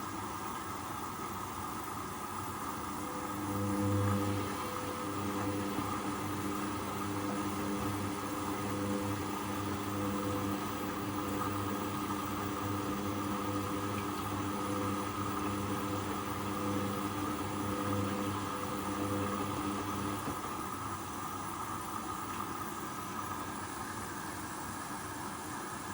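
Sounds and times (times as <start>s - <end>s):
washing machine humming: 0.0s - 25.9s.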